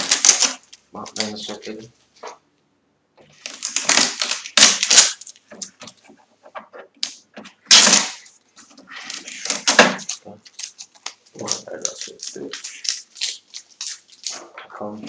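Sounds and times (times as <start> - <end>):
tape ripping off plastic: 0.0 - 1.7, 3.4 - 6.0, 6.9 - 15.0.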